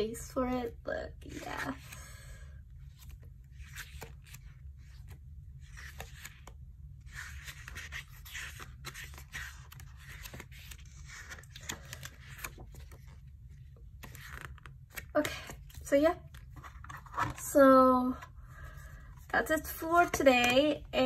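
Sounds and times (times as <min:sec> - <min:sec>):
book pages rustling: 0:02.8 - 0:20.8.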